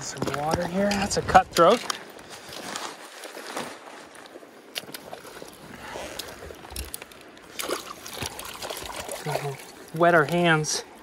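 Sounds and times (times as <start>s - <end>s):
creek water running over rocks: 0.0s - 11.0s
landing net and waders rustling: 0.9s - 10.8s.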